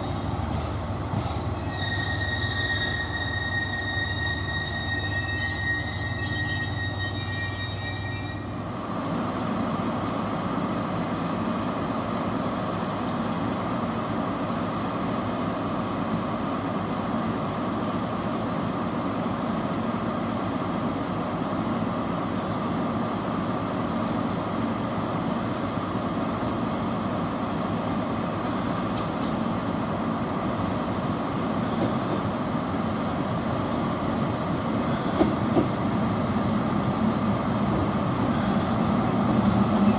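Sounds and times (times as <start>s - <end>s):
train rolling on rails: 0.0s - 39.9s.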